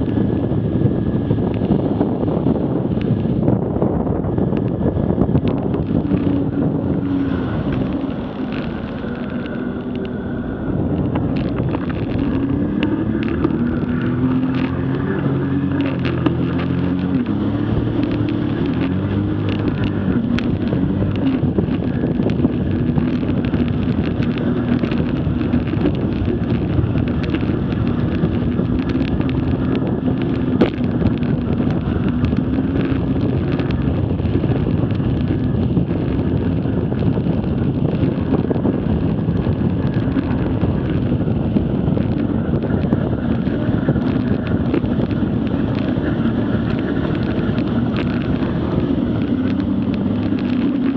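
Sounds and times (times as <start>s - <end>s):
jet ski engine running: 0.0s - 50.9s
wind buffeting microphone: 0.0s - 50.9s.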